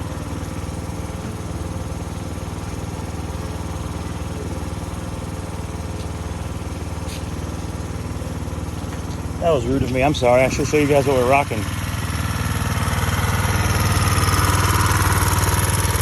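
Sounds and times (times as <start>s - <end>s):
minibike engine running steadily: 0.0s - 16.0s.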